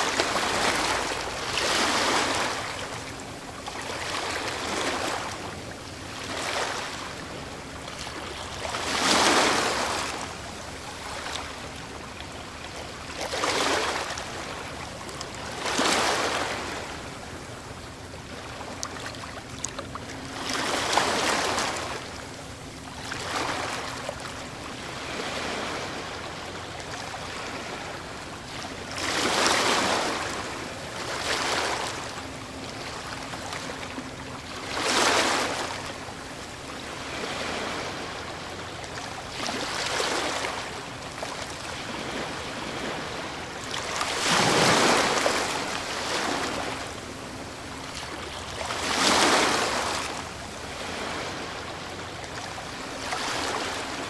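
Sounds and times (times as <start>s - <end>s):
ocean waves crashing on shore: 0.0s - 14.8s, 15.4s - 18.8s, 20.1s - 54.0s.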